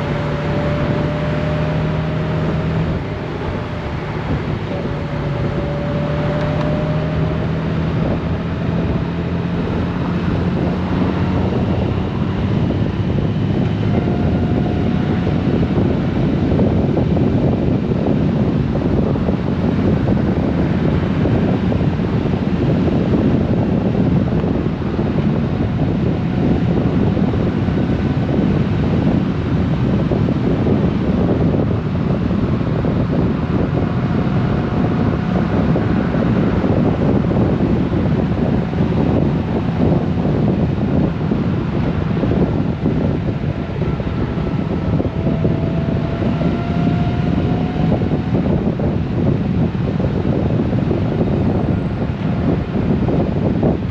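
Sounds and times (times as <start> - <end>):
motorcycle engine at road speed: 0.0 - 53.9
wind buffeting microphone: 0.0 - 53.9.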